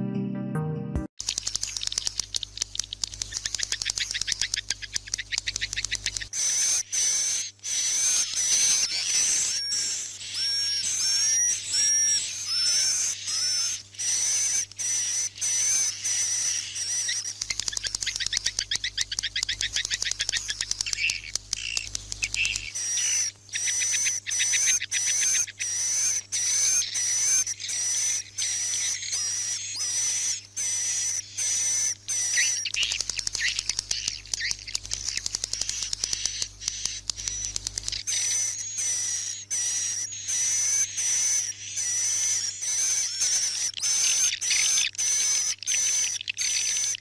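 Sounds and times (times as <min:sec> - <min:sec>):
buzzy clicking chatter: 0:01.2 - 0:47.0
swiftlets chirping: 0:01.2 - 0:47.0.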